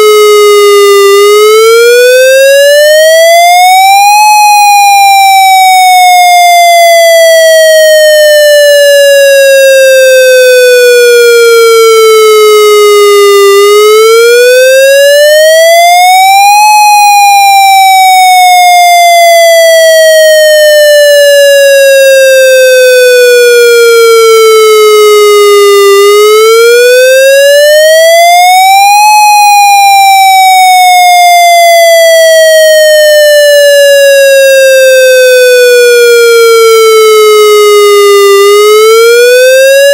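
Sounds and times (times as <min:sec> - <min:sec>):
electronic siren wailing: 0:00.0 - 0:39.9.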